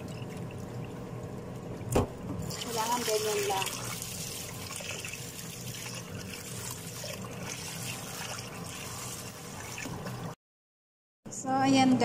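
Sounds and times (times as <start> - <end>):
water trickling as rice is rinsed: 0.0 - 10.4.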